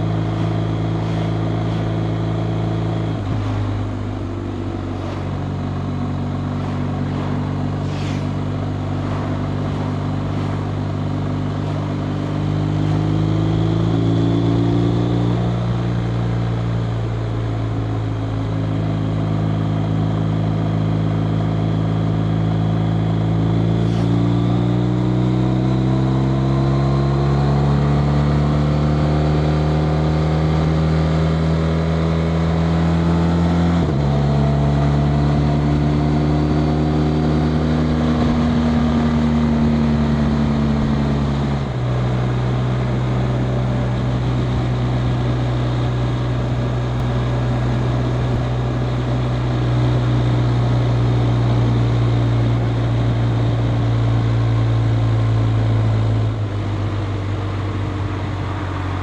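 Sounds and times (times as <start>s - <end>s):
motorcycle engine accelerating: 0.0s - 59.0s
wind and road rush: 0.0s - 59.0s.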